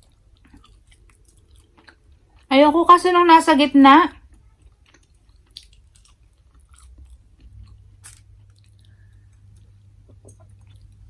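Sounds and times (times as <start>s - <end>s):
person chewing food: 0.0s - 2.5s, 4.2s - 11.0s.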